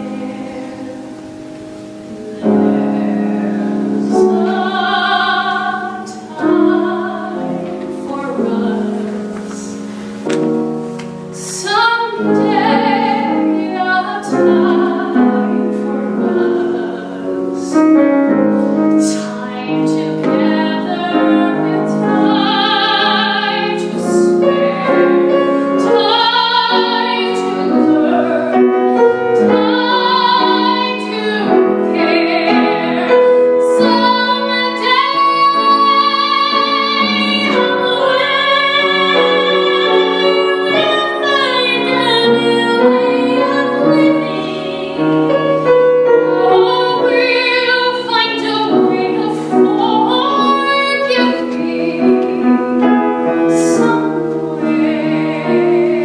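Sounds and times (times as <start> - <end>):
women singing a ballad duet: 0.0 - 9.9, 11.4 - 56.0
piano: 0.0 - 56.0.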